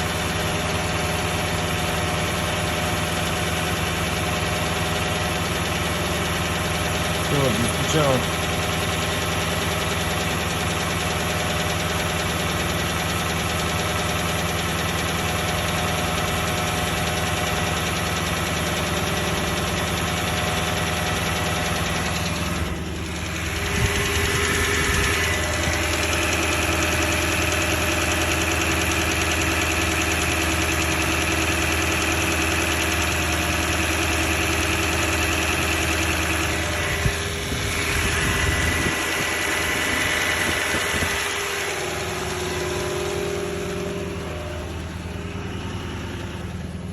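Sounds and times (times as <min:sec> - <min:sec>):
engine idling with knock: 0:00.0 - 0:46.9.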